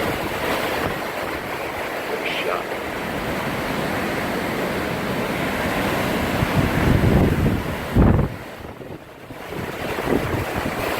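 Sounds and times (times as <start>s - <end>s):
strong wind buffeting microphone: 0.0s - 2.1s, 2.8s - 10.9s.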